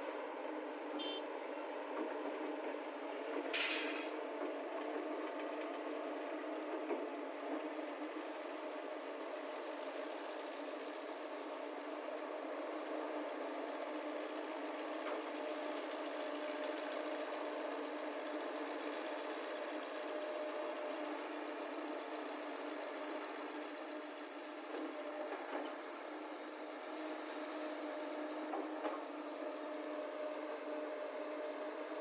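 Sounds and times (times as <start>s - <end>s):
excavator diesel engines running: 0.0s - 32.0s.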